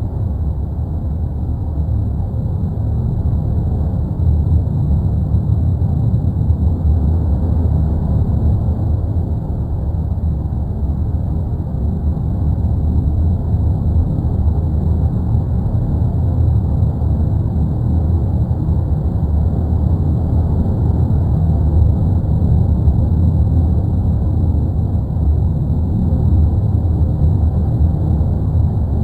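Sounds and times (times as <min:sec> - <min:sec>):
deep volcano rumble: 0:00.0 - 0:29.0.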